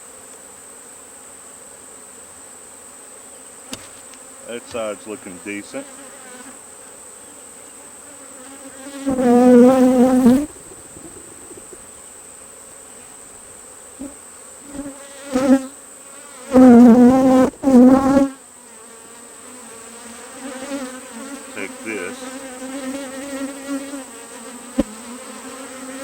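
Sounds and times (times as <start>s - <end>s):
bees buzzing: 0.0s - 26.0s
bees flying past microphone: 3.4s - 26.0s.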